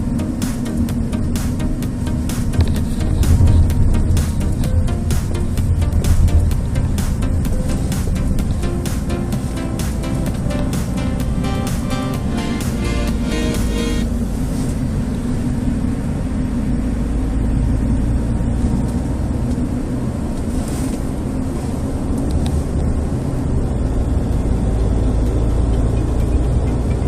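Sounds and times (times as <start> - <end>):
tyre road rumble in car cabin: 0.0 - 11.5, 13.9 - 27.0.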